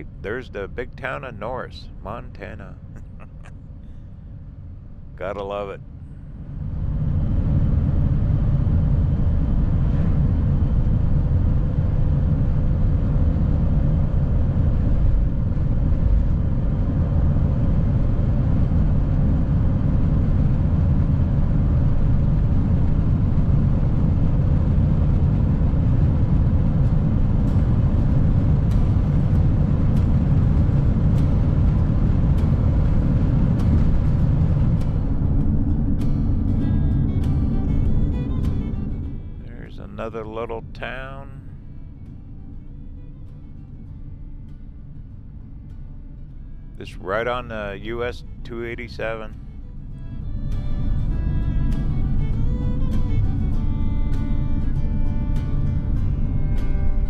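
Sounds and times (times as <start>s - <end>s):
tyre and engine rumble: 0.0s - 57.0s.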